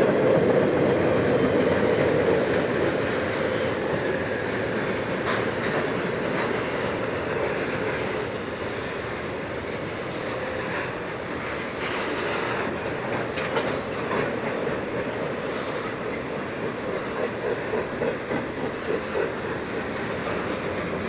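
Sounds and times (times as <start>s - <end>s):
steel wheels rumbling on rail: 0.0s - 21.0s
wheels clacking over rail joints: 0.0s - 21.0s.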